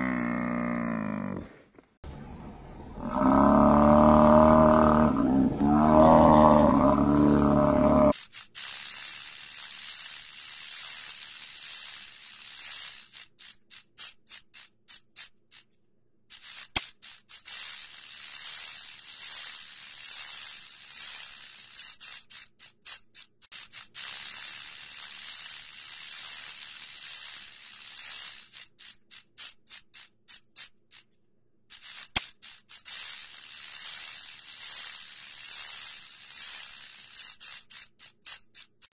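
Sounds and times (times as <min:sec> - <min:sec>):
rattlesnake tail rattling: 0:05.6 - 0:38.9.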